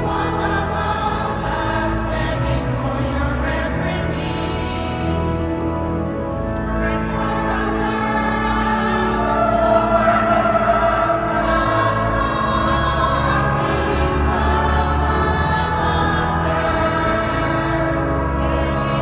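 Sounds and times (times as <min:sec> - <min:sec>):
choir singing: 0:00.0 - 0:19.0
deep sustained bass: 0:00.0 - 0:19.0.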